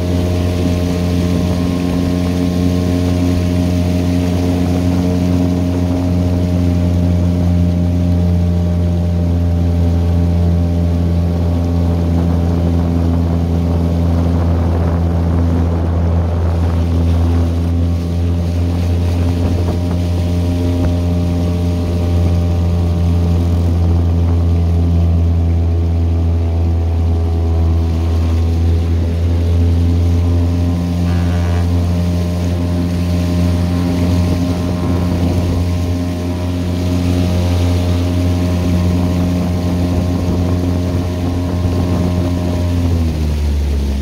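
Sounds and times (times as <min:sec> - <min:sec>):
outboard engine running: 0:00.0 - 0:44.0
water rushing in wake: 0:00.0 - 0:44.0.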